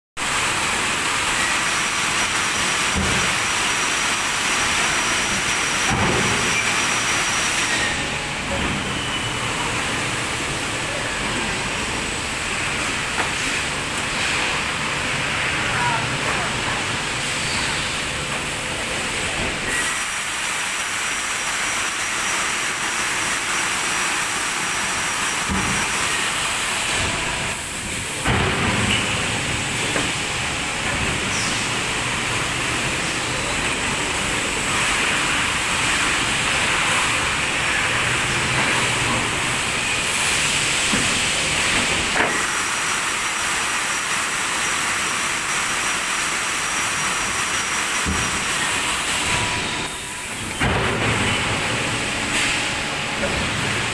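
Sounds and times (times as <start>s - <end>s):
press machine hiss and noise: 0.2s - 53.9s.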